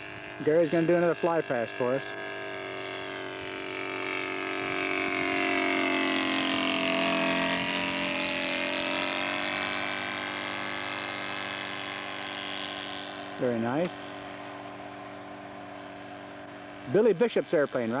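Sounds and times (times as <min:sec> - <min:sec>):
model plane engine buzzing: 0:00.0 - 0:18.0.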